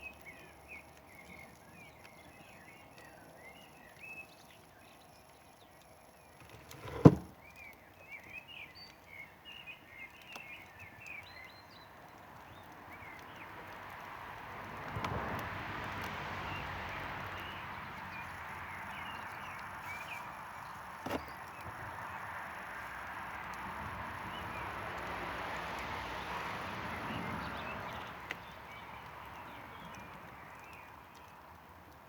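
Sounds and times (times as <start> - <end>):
campfire crackling: 0.0 - 6.4, 7.4 - 32.0
small birds chirping: 0.0 - 14.5, 16.0 - 32.0.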